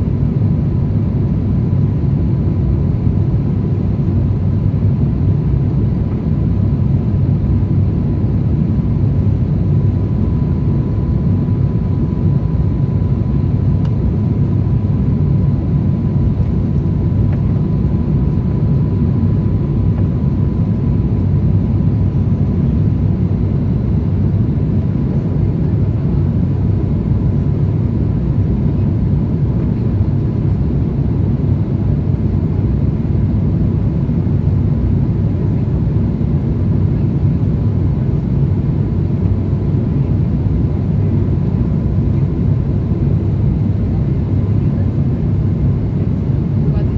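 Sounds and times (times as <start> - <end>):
airliner cabin rumble: 0.1 - 46.9.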